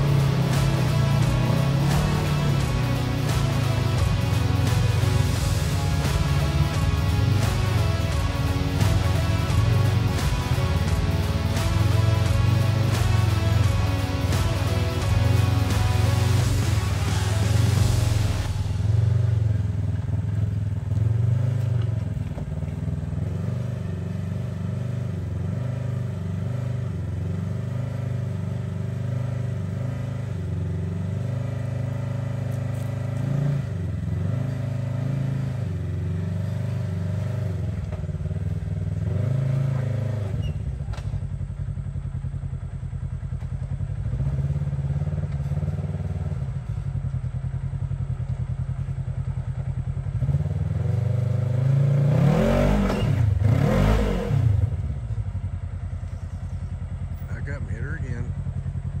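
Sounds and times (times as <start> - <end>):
utility vehicle engine revving: 0.0 - 59.0.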